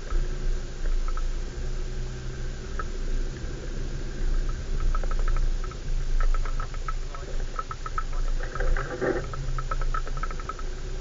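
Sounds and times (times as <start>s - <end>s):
vehicle engine running low: 0.0s - 11.0s.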